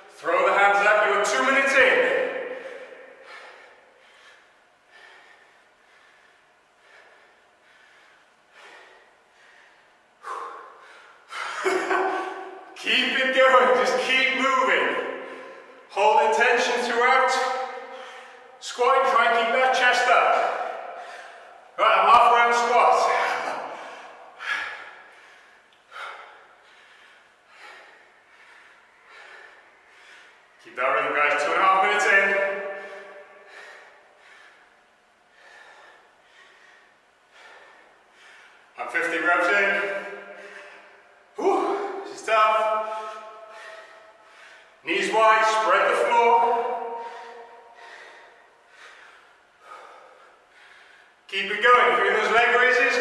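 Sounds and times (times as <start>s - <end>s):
man breathing hard: 1.8s - 12.8s, 13.4s - 16.0s, 16.6s - 30.7s, 31.4s - 53.0s.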